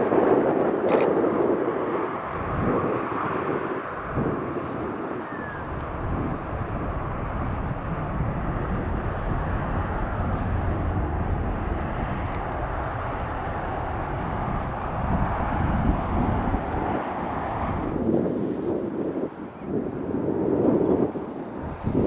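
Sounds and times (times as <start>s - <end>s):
wind gusts on microphone: 0.0s - 22.0s
aircraft engine rushing: 1.6s - 19.0s, 20.0s - 22.0s.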